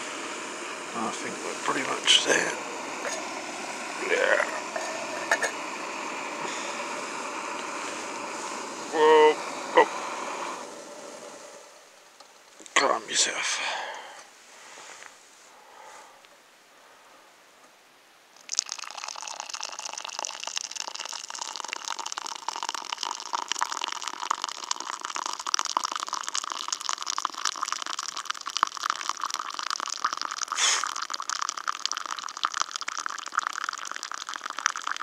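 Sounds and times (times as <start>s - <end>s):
hot water pouring into mug: 0.0s - 11.8s, 18.4s - 35.0s.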